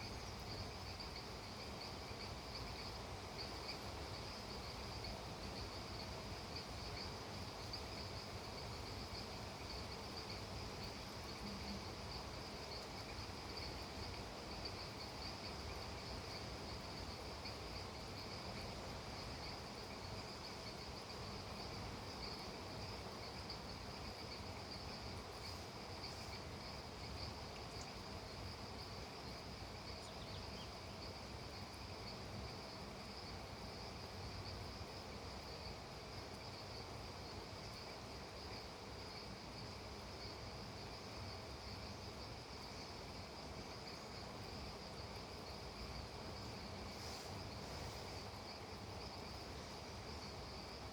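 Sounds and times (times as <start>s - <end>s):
insects trilling: 0.0s - 50.9s
low even hiss: 0.0s - 50.9s.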